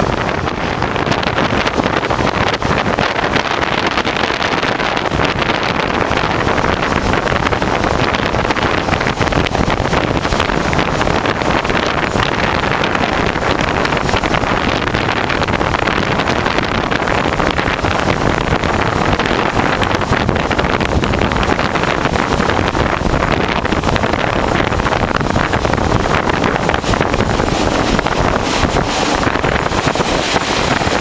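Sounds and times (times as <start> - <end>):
train rumbling and rattling: 0.0 - 31.0
wind buffeting microphone: 0.0 - 31.0.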